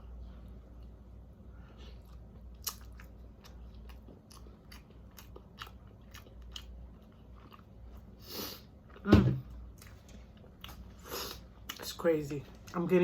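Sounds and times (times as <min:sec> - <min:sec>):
person chewing food: 0:00.0 - 0:11.9.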